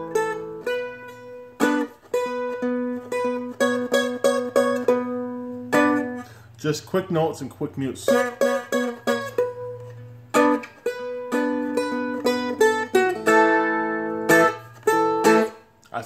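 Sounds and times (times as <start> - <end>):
dulcimer picked melody: 0.0 - 6.4, 7.0 - 15.6.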